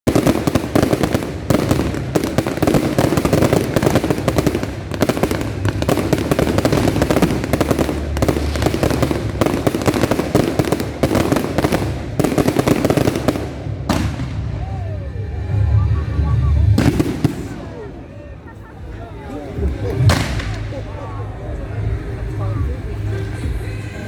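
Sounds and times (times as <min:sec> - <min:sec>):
fireworks bangs and crackling: 0:00.0 - 0:22.1.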